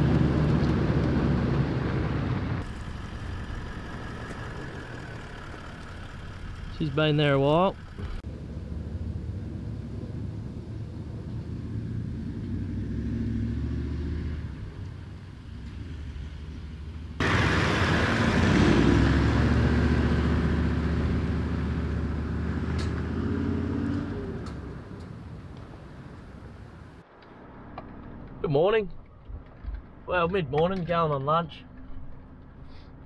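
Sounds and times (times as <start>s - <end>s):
diesel engine driving: 0.0s - 28.7s.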